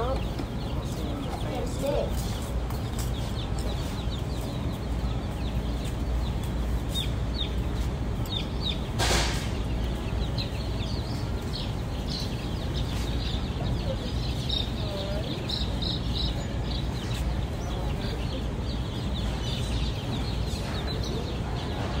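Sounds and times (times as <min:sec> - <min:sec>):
baby chicks peeping: 0:00.0 - 0:22.0
steady low hum: 0:00.0 - 0:22.0.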